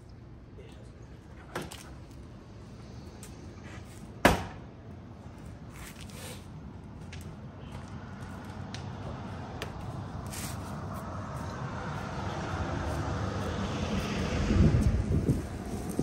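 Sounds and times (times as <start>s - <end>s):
passing vehicle engine and road noise: 0.0s - 16.0s.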